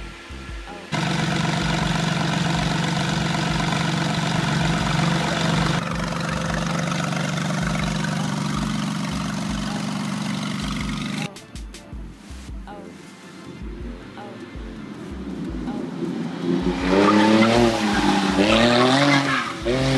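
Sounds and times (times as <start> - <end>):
car engine running steadily: 0.0 - 11.3, 13.5 - 19.9.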